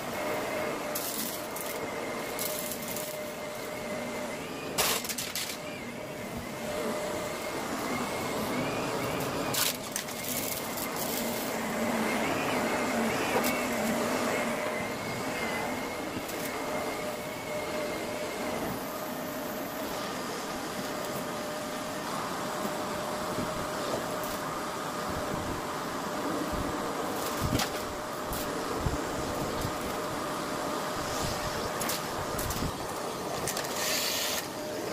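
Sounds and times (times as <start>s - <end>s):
vacuum cleaner on carpet: 0.0s - 34.9s.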